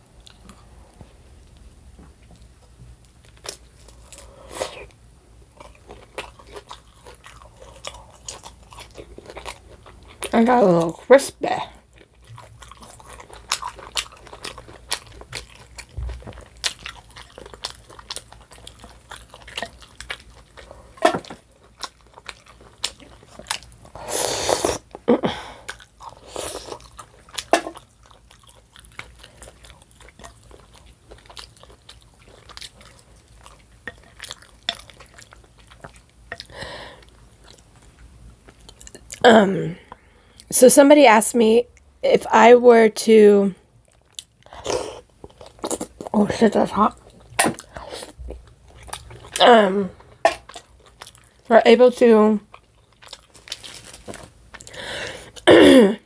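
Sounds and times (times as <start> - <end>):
person chewing and biting food: 2.3 - 10.3, 11.8 - 39.2, 43.8 - 46.2, 46.9 - 51.5, 52.4 - 55.5.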